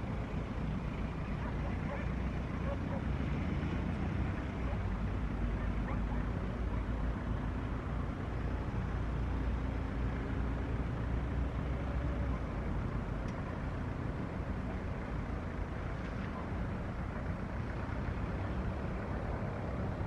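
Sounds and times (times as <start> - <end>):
distant engines rumbling: 0.0 - 20.0.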